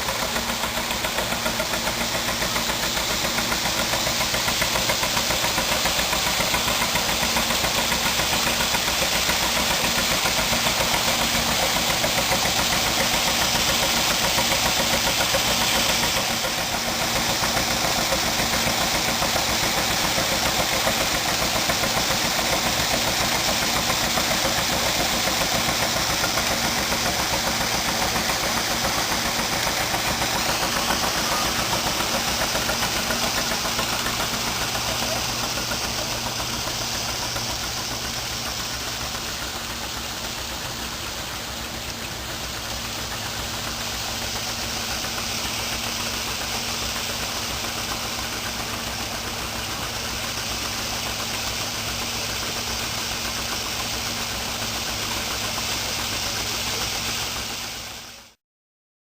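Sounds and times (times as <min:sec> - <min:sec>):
engine running steadily: 0:00.0 - 0:58.4.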